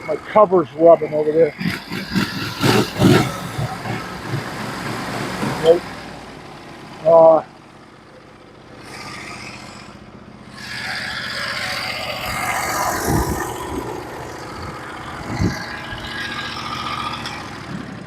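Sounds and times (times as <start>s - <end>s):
rushing noise: 0.0s - 7.2s, 10.5s - 18.0s
engine running: 0.0s - 18.0s.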